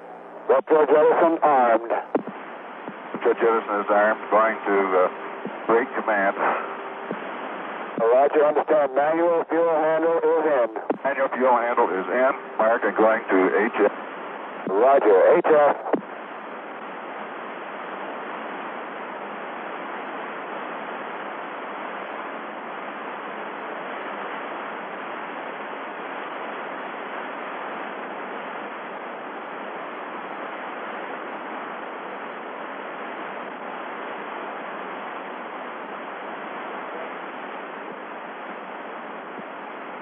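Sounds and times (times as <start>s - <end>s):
radio static hiss: 0.0s - 40.0s.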